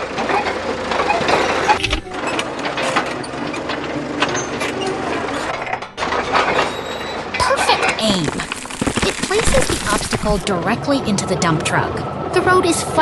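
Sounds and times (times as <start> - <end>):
machinery clanking and rattling: 0.0 - 11.8.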